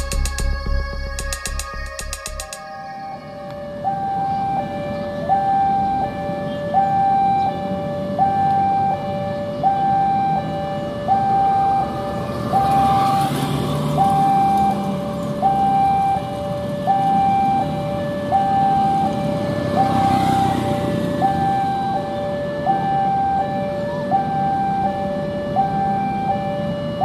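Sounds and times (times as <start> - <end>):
level crossing two-tone alarm: 0.0 - 27.0
low traffic rumble: 0.0 - 27.0.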